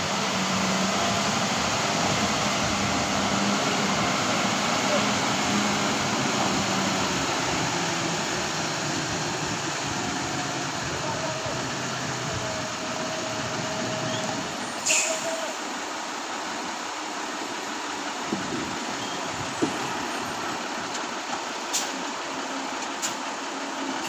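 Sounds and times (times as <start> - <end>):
diesel engine running low: 0.0 - 24.0.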